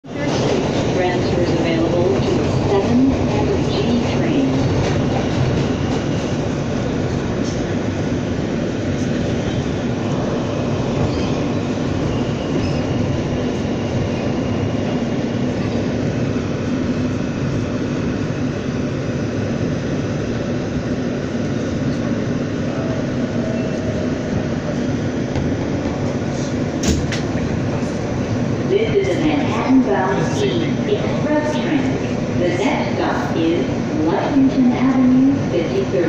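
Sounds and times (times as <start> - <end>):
subway wheels rumbling: 0.0 - 36.0.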